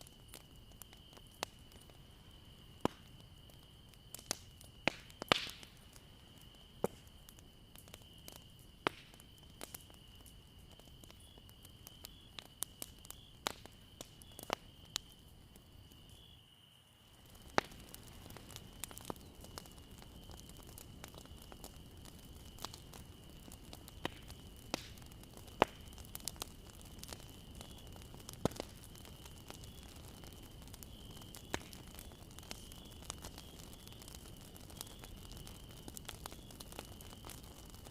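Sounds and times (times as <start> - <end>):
wood fire crackling and popping: 0.0 - 37.9.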